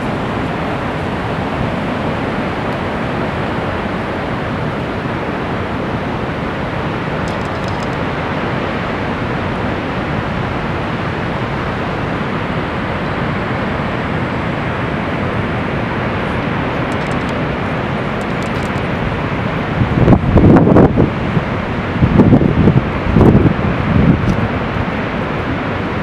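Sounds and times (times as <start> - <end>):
rush of falling water: 0.0 - 26.0.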